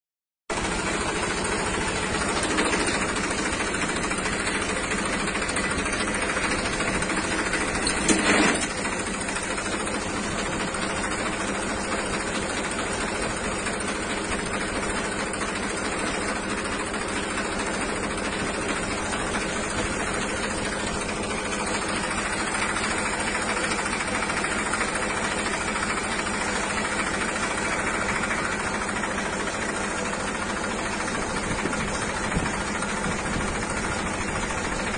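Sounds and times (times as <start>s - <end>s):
loud clatter: 0.5s - 34.9s.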